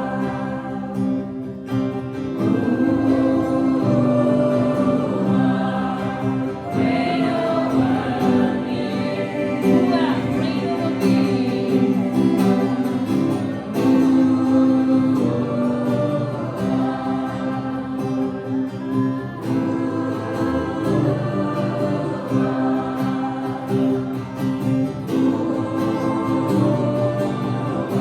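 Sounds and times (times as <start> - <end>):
acoustic guitar: 0.0 - 28.0
group singing: 0.0 - 28.0.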